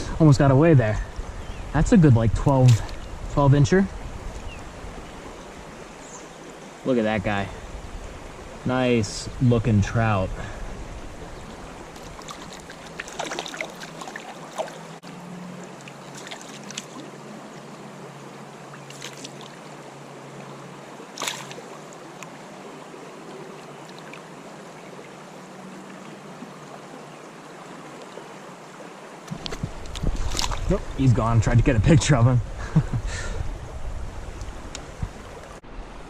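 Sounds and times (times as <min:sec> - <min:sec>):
creek water running: 0:00.0 - 0:36.0.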